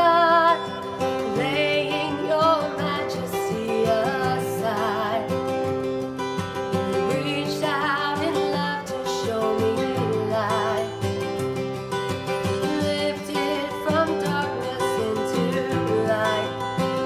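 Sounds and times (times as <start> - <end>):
woman singing with vibrato: 0.0 - 5.5, 6.8 - 11.1, 12.4 - 17.0
acoustic guitar: 0.0 - 17.0.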